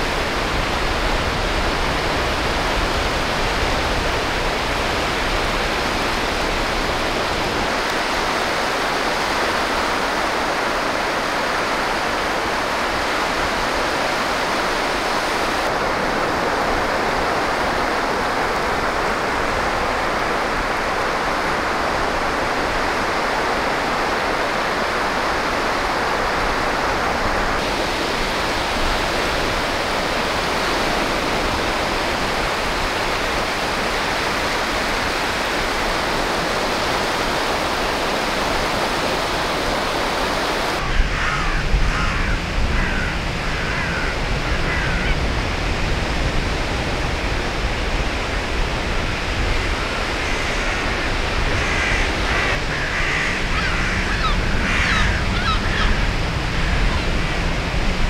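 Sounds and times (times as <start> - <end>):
waves washing on pebble beach: 0.0 - 54.0.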